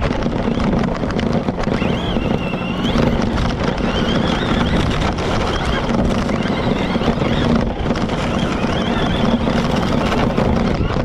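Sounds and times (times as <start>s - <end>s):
wheels running over dirt: 0.0s - 11.0s
wind rushing on microphone: 0.0s - 11.0s
rc car motor whine: 0.2s - 11.0s.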